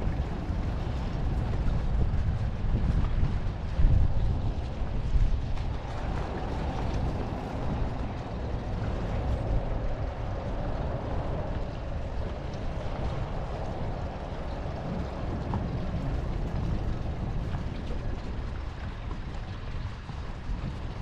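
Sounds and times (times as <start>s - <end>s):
motorboat engine rumbling: 0.0s - 21.0s
water and hull noise: 0.0s - 21.0s.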